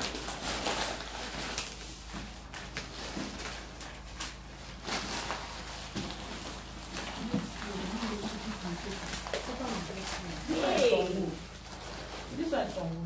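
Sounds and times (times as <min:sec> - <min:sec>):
low room hum: 0:00.0 - 0:13.0
wrapping paper and bags crinkling: 0:00.0 - 0:13.0.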